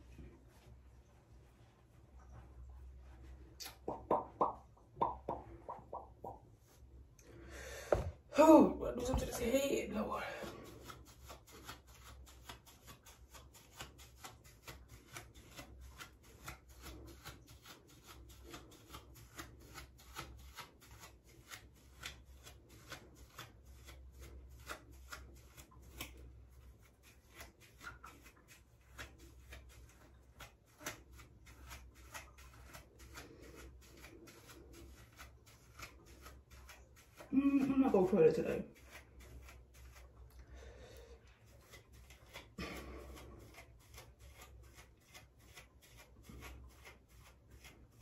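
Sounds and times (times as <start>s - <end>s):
comb raking through hair: 8.4s - 40.3s, 41.2s - 48.0s.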